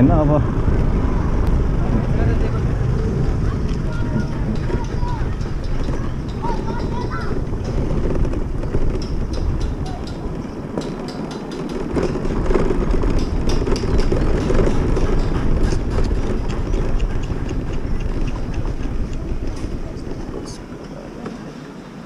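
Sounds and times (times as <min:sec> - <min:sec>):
wind on microphone: 0:00.0 - 0:20.7
motor scooter engine rumble: 0:00.0 - 0:22.0
clatters and knocks from bumps: 0:03.4 - 0:21.4.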